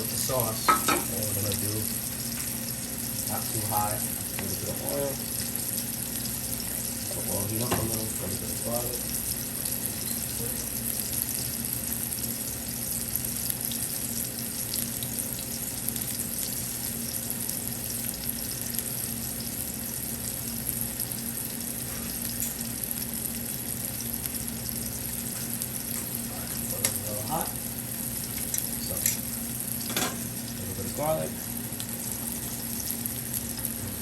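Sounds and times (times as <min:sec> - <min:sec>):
chicken sizzling in hot oil: 0:00.0 - 0:34.0
steady low hum: 0:00.0 - 0:34.0.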